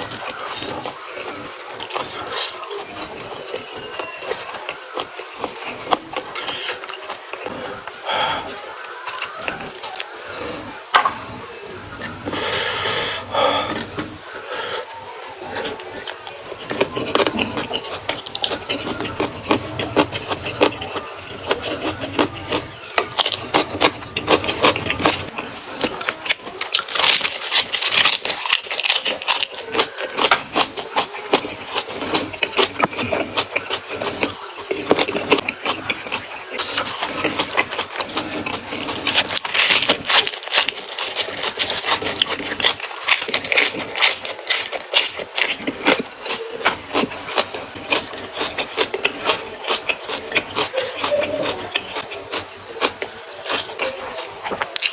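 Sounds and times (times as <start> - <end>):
chewing crunchy raw vegetables: 0.0 - 54.9.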